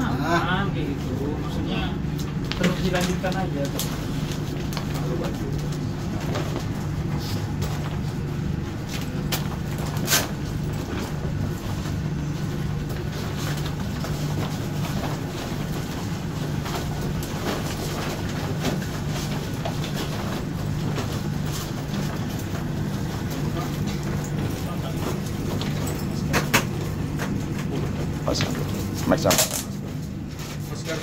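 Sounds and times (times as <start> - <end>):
low machinery hum: 0.0 - 31.0.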